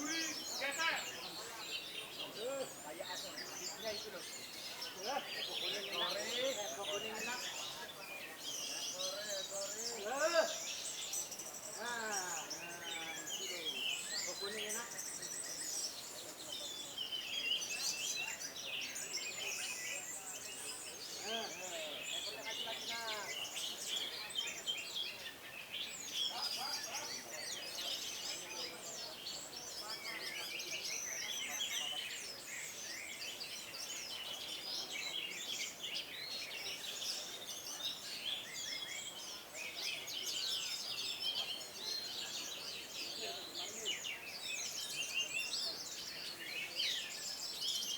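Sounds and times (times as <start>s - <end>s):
many thrushes singing: 0.0s - 47.9s.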